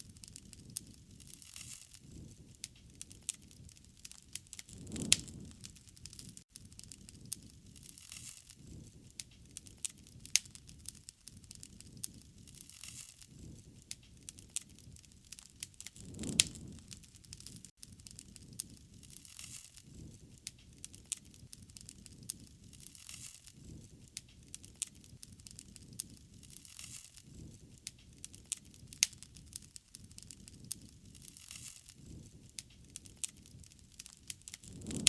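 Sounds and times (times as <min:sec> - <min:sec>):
soft low rush of fire: 0:00.0 - 0:35.0
wood fire crackling and popping: 0:00.0 - 0:35.0.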